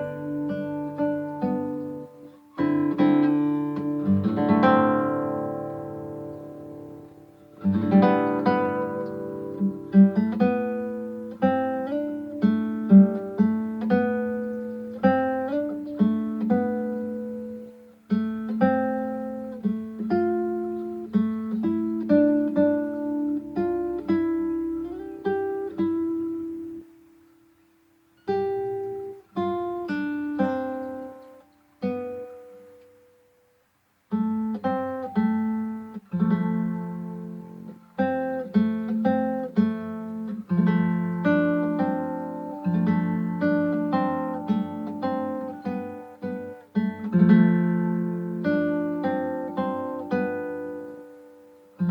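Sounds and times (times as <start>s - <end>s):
acoustic guitar music: 0.0s - 51.9s.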